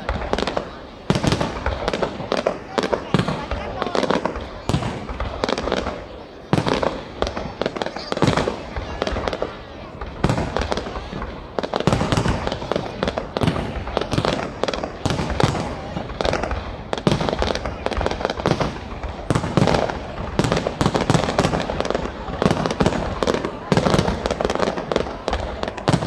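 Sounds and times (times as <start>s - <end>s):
fireworks bangs and crackles: 0.0s - 26.0s
people's voices: 0.0s - 26.0s.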